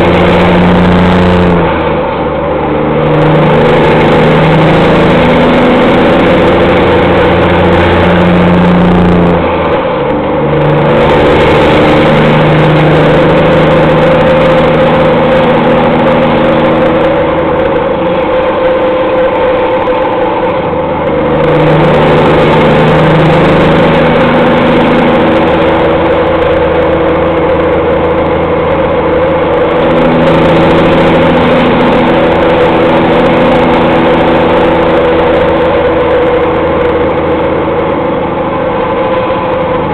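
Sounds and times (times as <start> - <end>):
loud diesel truck engine: 0.0 - 39.9.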